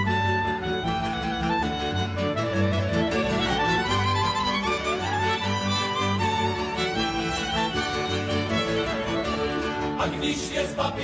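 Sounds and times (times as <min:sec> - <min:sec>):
violin melody: 0:00.0 - 0:10.5.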